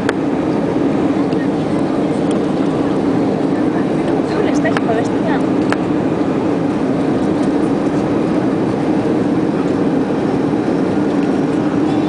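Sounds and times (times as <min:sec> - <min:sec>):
airplane cabin roar: 0:00.0 - 0:12.0.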